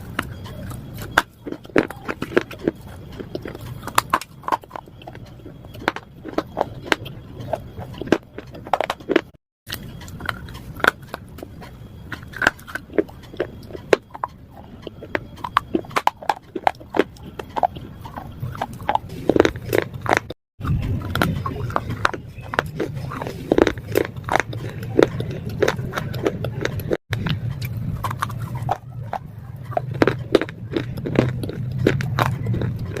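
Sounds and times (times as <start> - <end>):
crunching and chewing slate: 0.0 - 33.0.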